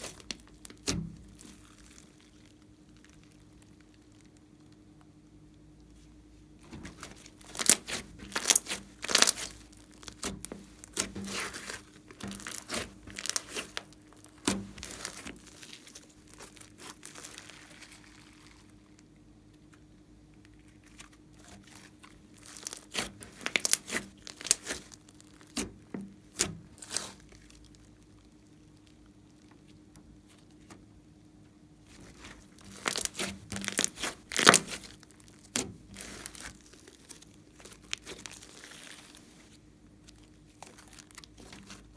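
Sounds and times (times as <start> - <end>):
slime crackling and popping: 0.0 - 4.8, 6.6 - 18.8, 20.4 - 29.6, 31.9 - 41.9.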